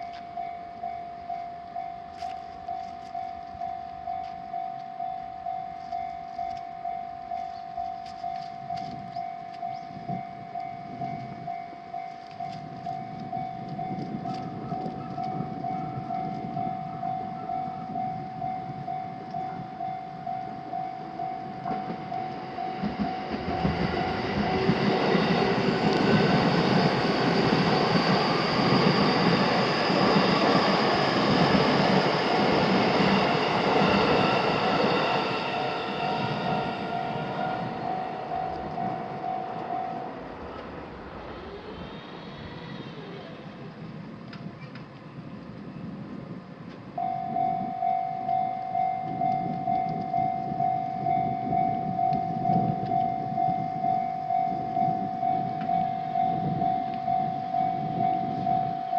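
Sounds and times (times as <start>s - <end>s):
railroad crossing bell ringing: 0.0s - 43.4s, 46.9s - 58.9s
train motor whine: 0.0s - 45.4s, 46.6s - 58.9s
train wheels rushing on rail: 0.0s - 58.9s.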